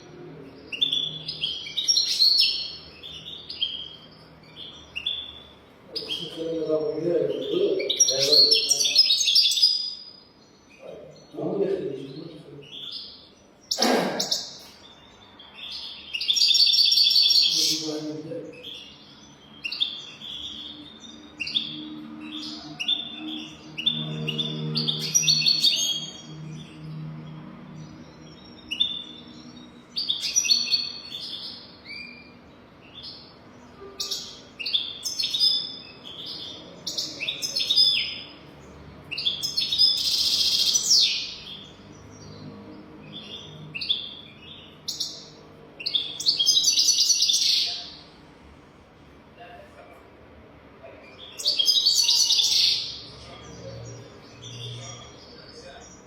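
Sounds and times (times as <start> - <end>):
goldfinch twittering and trilling: 0.5 - 27.1, 27.7 - 47.8.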